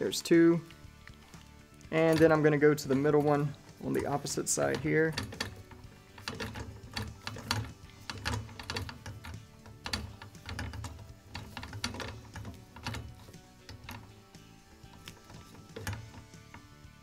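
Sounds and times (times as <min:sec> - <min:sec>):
background music: 0:00.0 - 0:17.0
torque driver clicking: 0:00.6 - 0:17.0.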